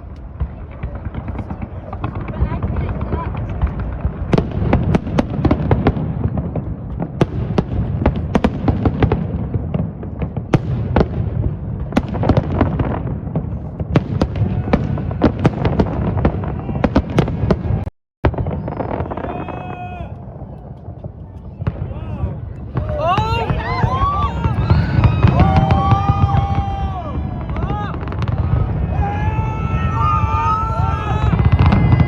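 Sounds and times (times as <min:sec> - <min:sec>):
low rumble of echoing booms: 0:00.0 - 0:19.5, 0:20.1 - 0:32.0
fireworks bangs: 0:00.0 - 0:32.0.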